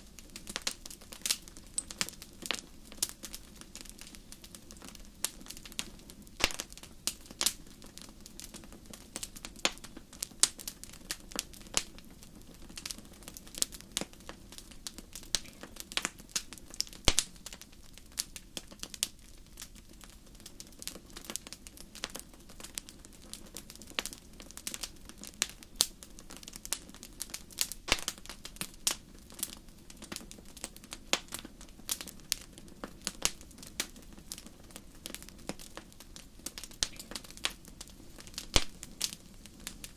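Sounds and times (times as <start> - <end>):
faint low hiss: 0.0 - 39.9
wood fire crackling and popping: 0.0 - 39.9.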